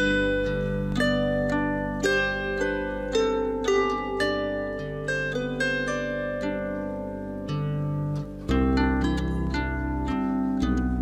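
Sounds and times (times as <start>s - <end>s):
harp melody: 0.0s - 11.0s.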